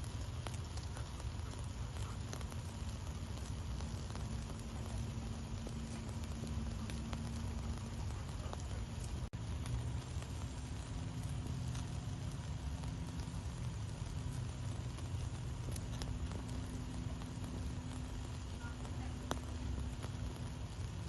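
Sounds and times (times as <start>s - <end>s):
fire crackling and popping: 0.0s - 21.0s
fire rumbling: 0.0s - 21.0s.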